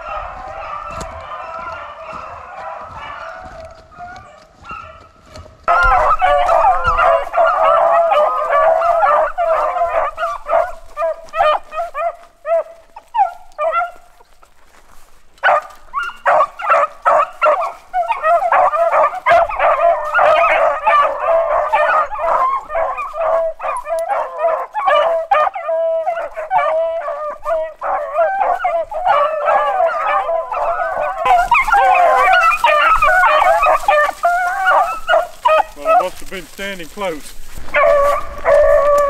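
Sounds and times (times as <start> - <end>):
hounds baying and yelping: 0.0 - 39.0.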